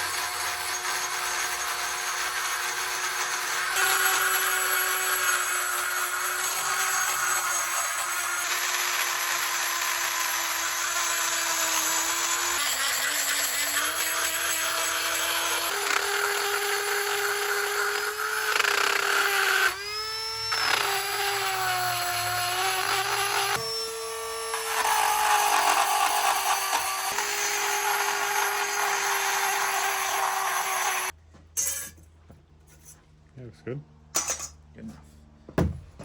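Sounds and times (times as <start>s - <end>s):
power grinder grinding metal: 0.0s - 31.2s.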